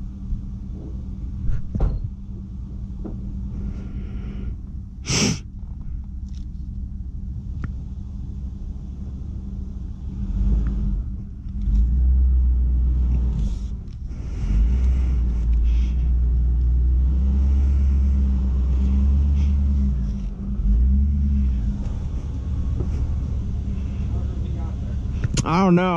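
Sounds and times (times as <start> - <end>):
car engine rumbling: 0.0 - 25.9.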